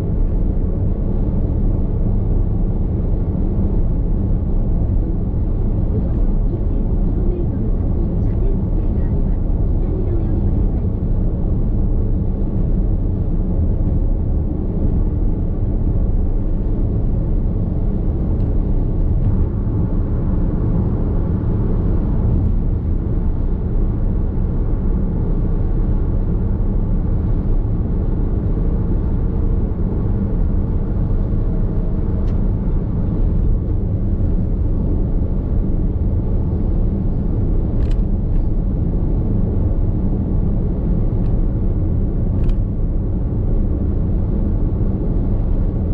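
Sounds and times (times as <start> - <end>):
road and tyre rumble: 0.0 - 45.9.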